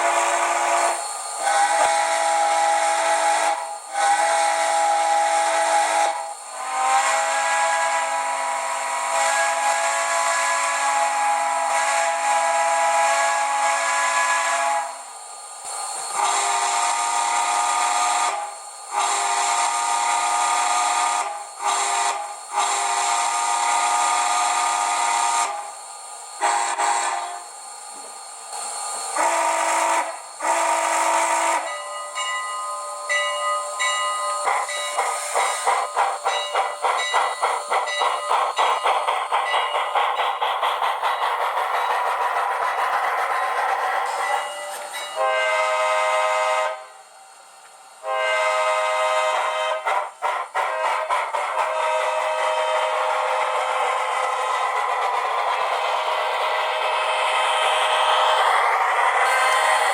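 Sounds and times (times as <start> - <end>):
steam whistle blasts: 0.0 - 28.0, 28.6 - 40.4, 41.0 - 59.9
steam exhaust chuffs: 0.0 - 59.9.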